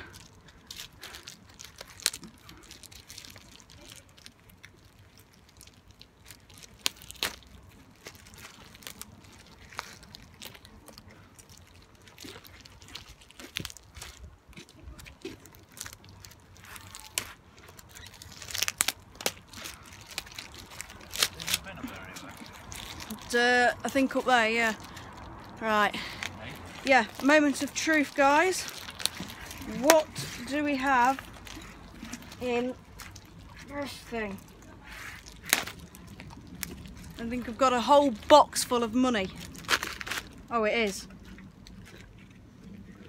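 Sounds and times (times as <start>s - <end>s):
plastic wrapping crinkling and tearing: 0.0s - 43.0s.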